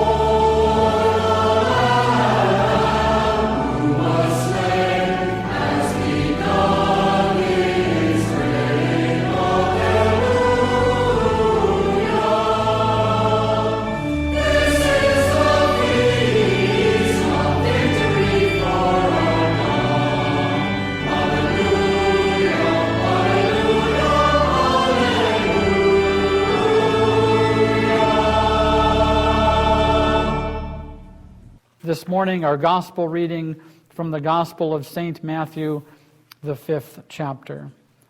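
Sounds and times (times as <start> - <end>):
choir singing held chords: 0.0 - 31.6.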